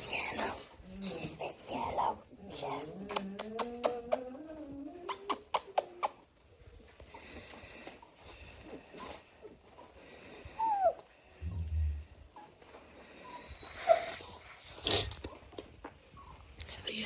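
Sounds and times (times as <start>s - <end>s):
faint snuffling: 0.0s - 17.0s
puppy whining: 2.0s - 16.6s.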